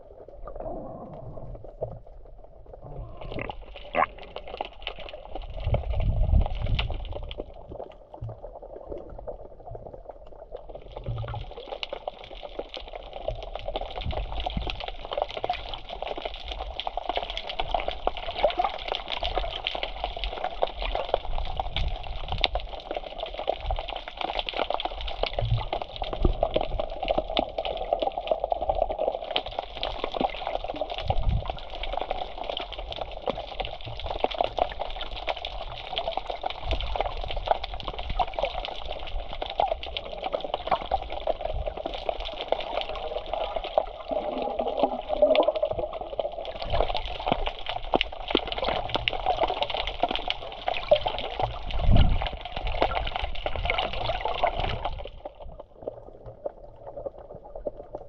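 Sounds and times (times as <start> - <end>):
sea water sloshing and gurgling: 0.0 - 58.0
small crackles: 0.0 - 58.0.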